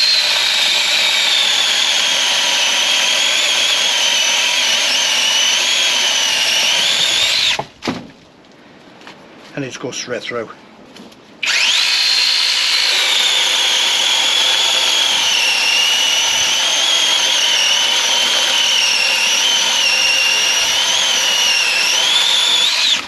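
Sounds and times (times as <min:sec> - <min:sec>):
mini chainsaw cutting wood: 0:00.0 - 0:07.7, 0:11.4 - 0:23.0.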